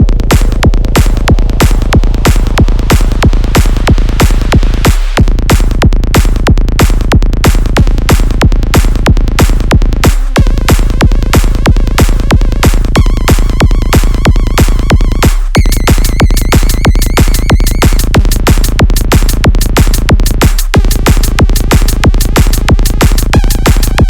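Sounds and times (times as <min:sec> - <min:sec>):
electronic dance music: 0:00.0 - 0:24.0.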